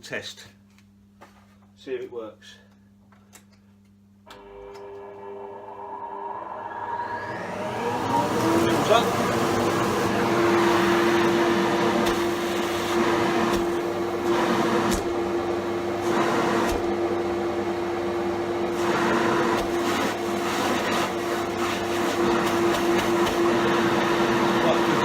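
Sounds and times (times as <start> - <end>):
dust collector humming: 4.4 - 25.0.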